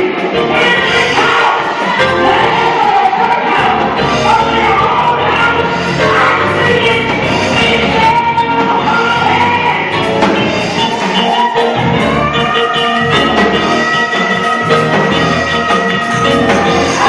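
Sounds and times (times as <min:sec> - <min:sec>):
held organ-like chords: 0:00.0 - 0:17.0
people singing: 0:00.0 - 0:17.0
steady drum beat: 0:00.0 - 0:17.0.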